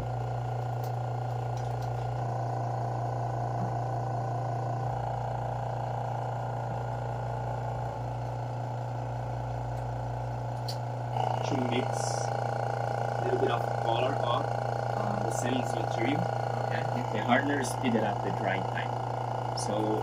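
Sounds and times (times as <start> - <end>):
vacuum pump humming: 0.0 - 20.0.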